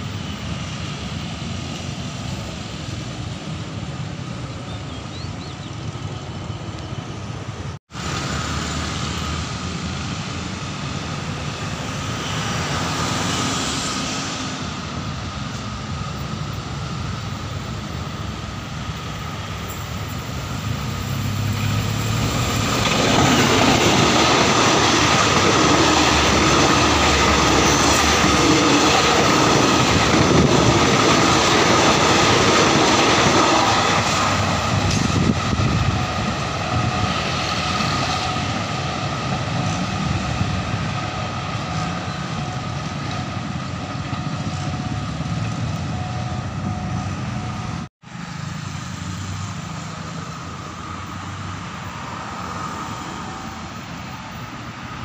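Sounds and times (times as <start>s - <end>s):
passenger train rolling past: 0.0s - 55.0s.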